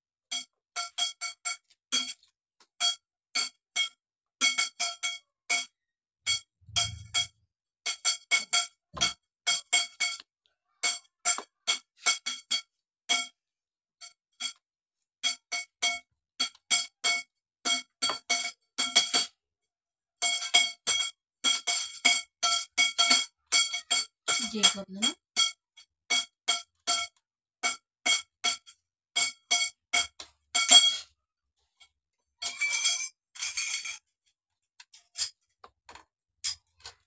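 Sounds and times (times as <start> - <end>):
metal tubes tapping together: 0.3 - 13.4, 14.0 - 14.6, 15.2 - 19.4, 20.2 - 37.0.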